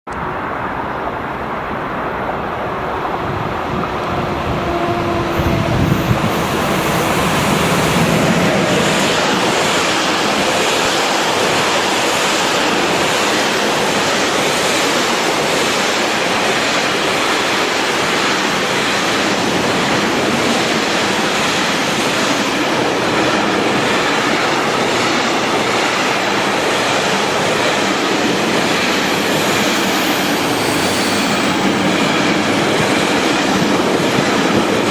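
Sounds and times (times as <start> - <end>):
freight train passing: 0.1 - 34.9
wheel and rail noise: 0.1 - 34.9.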